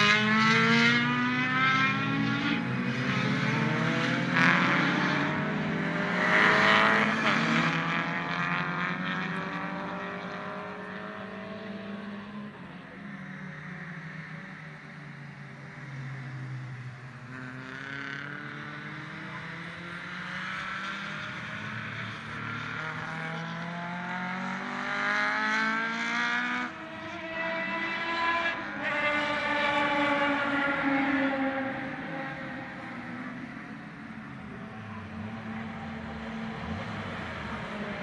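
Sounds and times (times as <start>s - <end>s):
race car engines accelerating: 0.0s - 38.0s.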